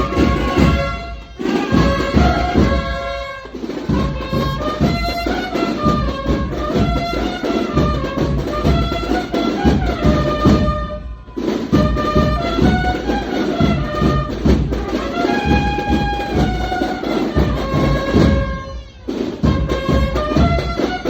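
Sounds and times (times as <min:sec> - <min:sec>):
cornets playing a march: 0:00.0 - 0:21.0
steady drum beat: 0:00.0 - 0:21.0.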